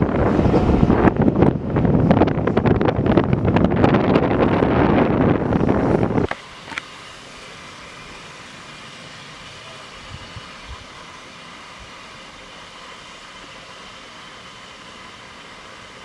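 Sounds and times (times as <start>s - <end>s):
train coaches rolling: 0.0s - 16.0s.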